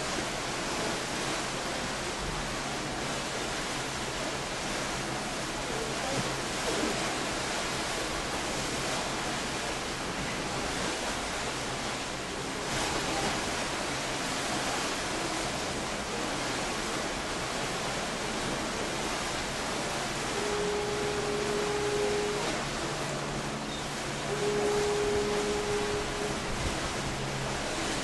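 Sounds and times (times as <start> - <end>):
choppy sea water: 0.0 - 28.0.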